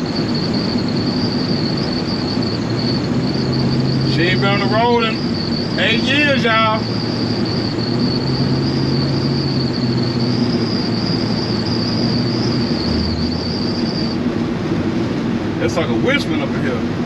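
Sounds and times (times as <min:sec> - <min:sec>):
high whistle in cab: 0:00.0 - 0:14.5
pickup engine and road noise: 0:00.0 - 0:17.0.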